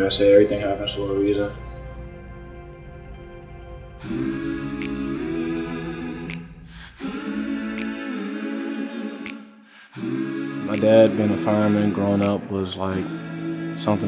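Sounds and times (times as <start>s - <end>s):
wordless choir-like singing: 0.0s - 14.0s.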